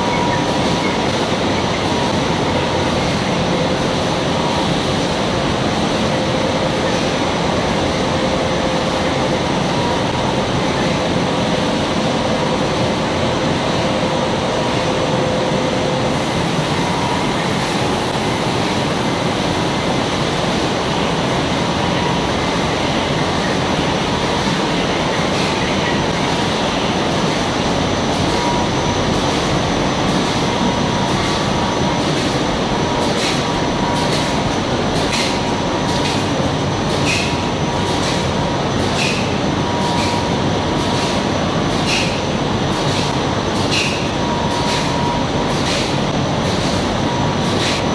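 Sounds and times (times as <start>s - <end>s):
printing press rumble and hiss: 0.0s - 47.9s.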